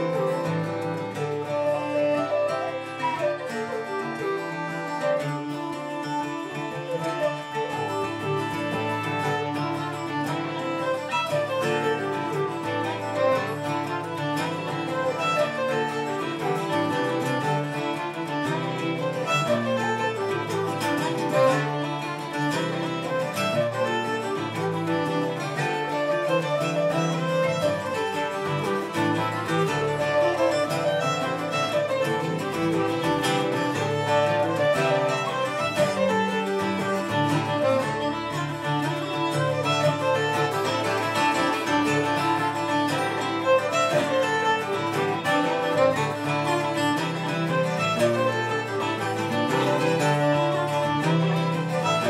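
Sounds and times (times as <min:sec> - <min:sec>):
fiddle playing: 0:00.0 - 0:52.0
strummed bouzouki: 0:00.0 - 0:52.0
uilleann pipes melody: 0:00.0 - 0:52.0.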